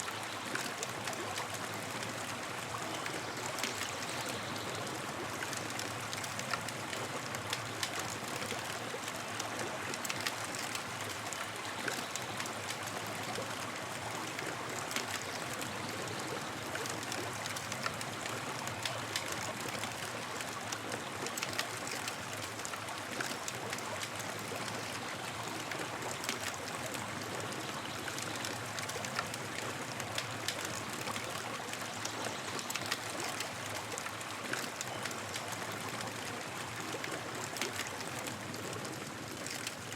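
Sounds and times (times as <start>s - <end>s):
campfire crackling and hissing: 0.0s - 39.9s.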